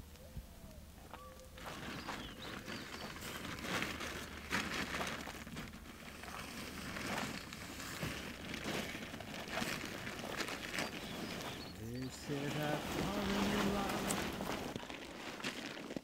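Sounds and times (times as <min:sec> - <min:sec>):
shuffling footsteps: 0:01.0 - 0:16.0
plastic sheeting rustling: 0:01.5 - 0:16.0
bundle dragged on gravel: 0:01.6 - 0:16.0.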